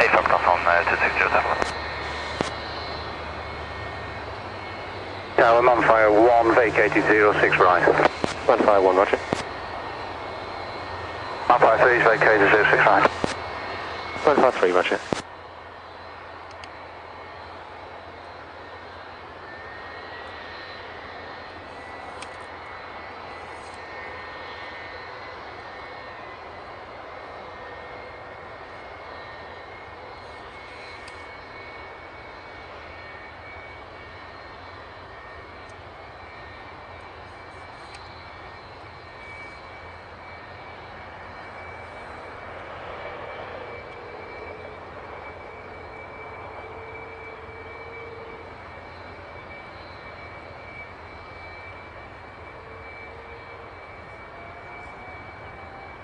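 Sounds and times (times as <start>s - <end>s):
jet engine idling: 0.0s - 56.0s.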